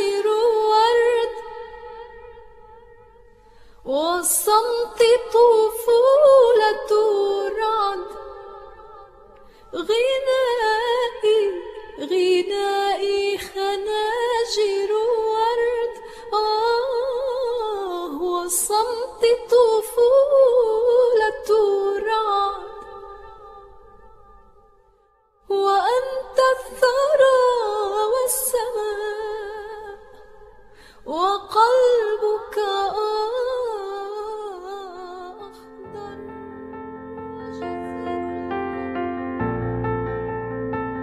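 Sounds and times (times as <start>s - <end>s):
woman singing with vibrato: 0.0s - 3.1s, 3.8s - 24.4s, 25.5s - 36.6s, 37.2s - 39.1s.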